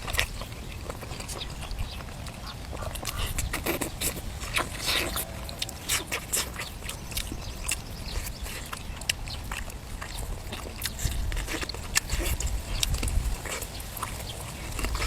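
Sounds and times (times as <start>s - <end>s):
lip smacks: 0.0s - 15.0s
wet chewing and crunching: 0.0s - 15.0s.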